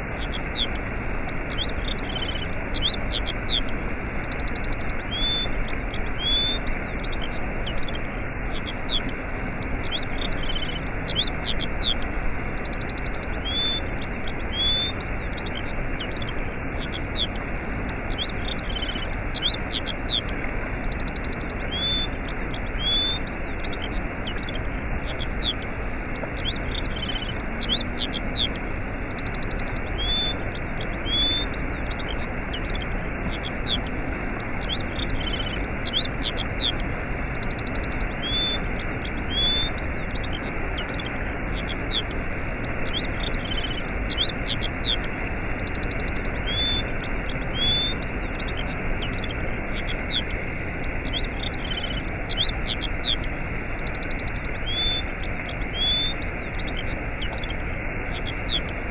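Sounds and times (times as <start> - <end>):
small birds chirping: 0.0 - 58.9
waterfall rushing: 0.1 - 58.9.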